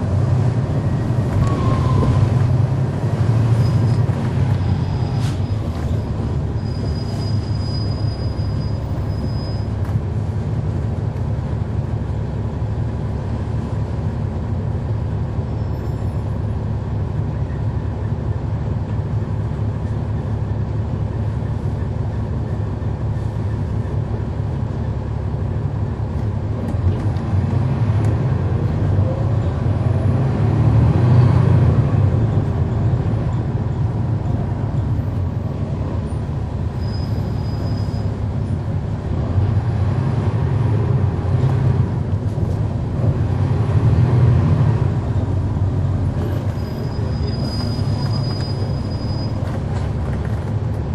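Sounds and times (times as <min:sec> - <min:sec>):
bus diesel engine rumbling: 0:00.0 - 0:50.9.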